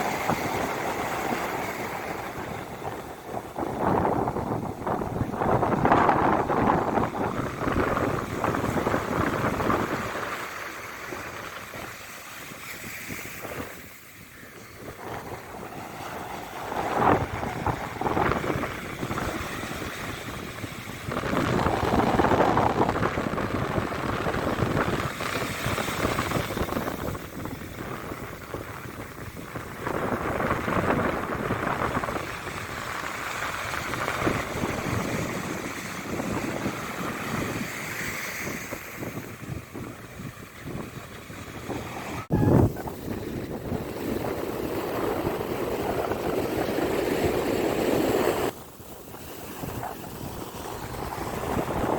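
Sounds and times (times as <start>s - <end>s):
sea waves breaking on beach: 0.0s - 51.9s
wind buffeting microphone: 0.0s - 51.9s.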